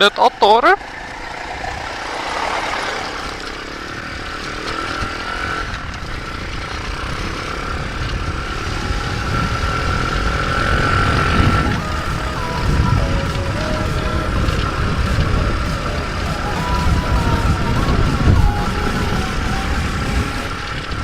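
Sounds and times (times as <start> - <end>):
rush of noise: 0.0 - 21.0
motorbike engine running: 0.8 - 21.0.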